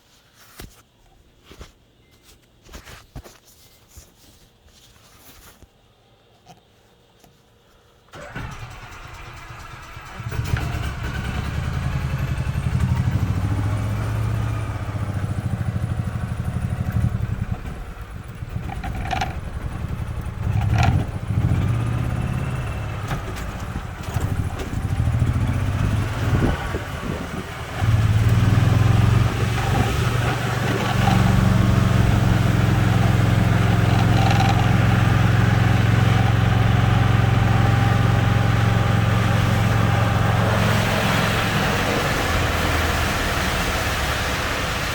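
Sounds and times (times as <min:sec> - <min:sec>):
golf cart motor hum: 0:08.2 - 0:44.6.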